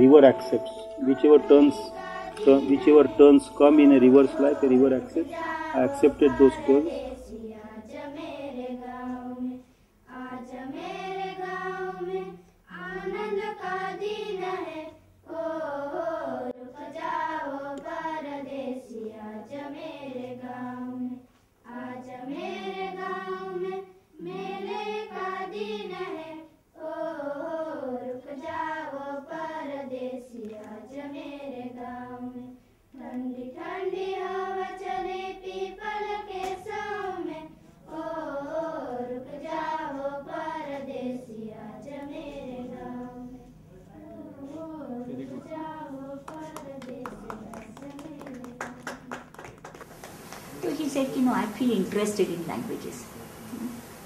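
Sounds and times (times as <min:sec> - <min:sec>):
children singing in unison: 0:00.2 - 0:48.6.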